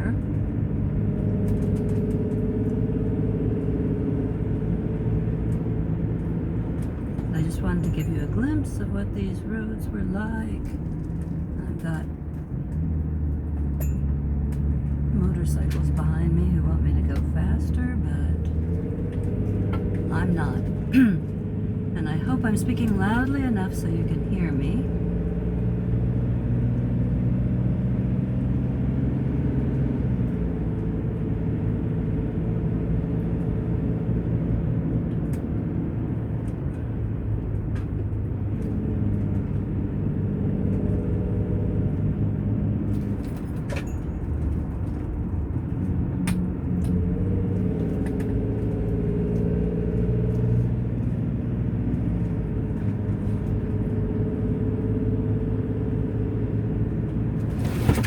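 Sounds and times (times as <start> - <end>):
vehicle engine and road hum: 0.0 - 58.0.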